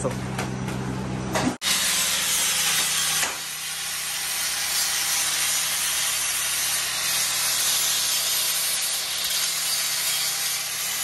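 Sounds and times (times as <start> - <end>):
angle grinder sanding metal: 1.6 - 11.0.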